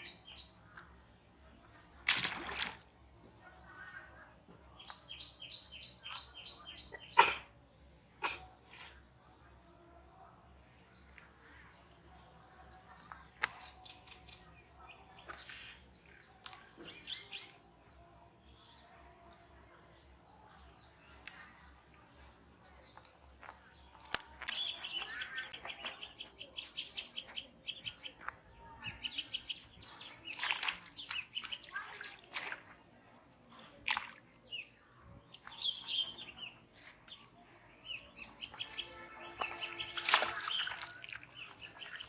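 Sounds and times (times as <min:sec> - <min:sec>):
birds chirping: 0:00.0 - 0:07.6, 0:08.2 - 0:42.0.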